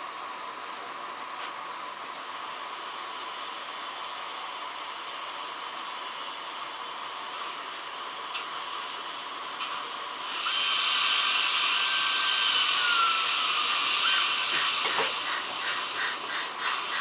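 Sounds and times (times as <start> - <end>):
model train rolling hiss: 0.0 - 17.0
small electric motor whine: 1.0 - 17.0.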